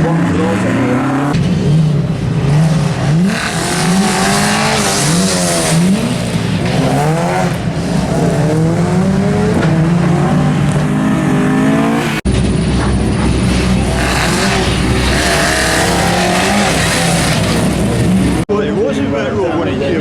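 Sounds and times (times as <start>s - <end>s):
rally car engine accelerating: 0.0s - 18.5s.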